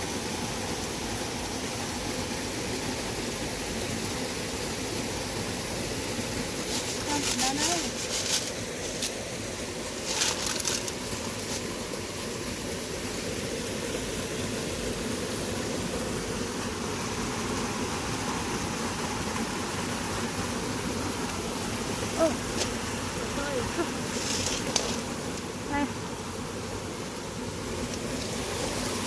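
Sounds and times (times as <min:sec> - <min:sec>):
stream water running: 0:00.0 - 0:29.0.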